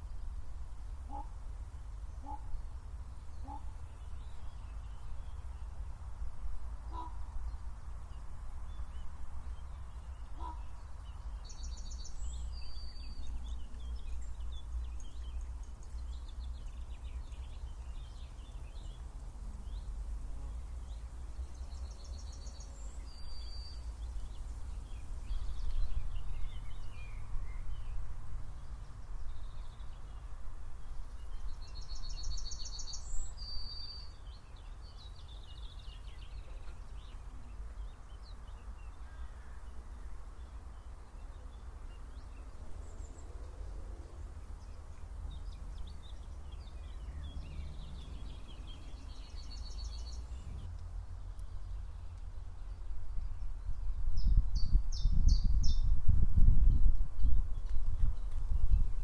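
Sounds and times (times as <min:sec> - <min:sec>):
songbird singing: 0:00.0 - 0:59.0
birds chirping faintly: 0:06.8 - 0:55.9.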